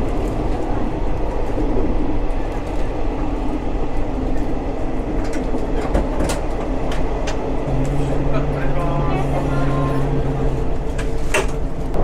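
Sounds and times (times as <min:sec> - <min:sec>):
diesel railcar rumble: 0:00.0 - 0:12.0.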